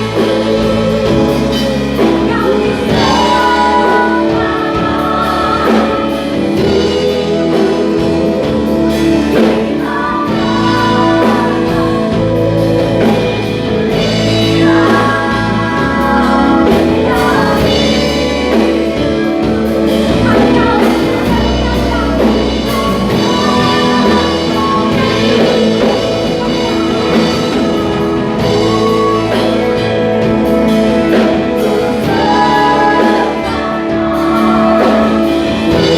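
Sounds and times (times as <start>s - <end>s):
band playing bass and chords: 0.0s - 35.9s
group singing worship music: 0.0s - 35.9s.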